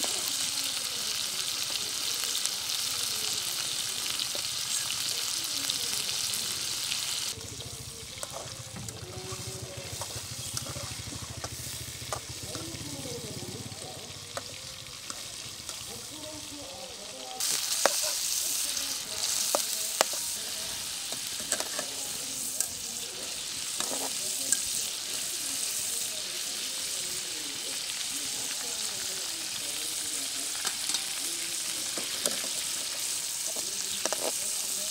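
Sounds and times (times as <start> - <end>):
food deep-frying in hot oil: 0.0 - 34.9.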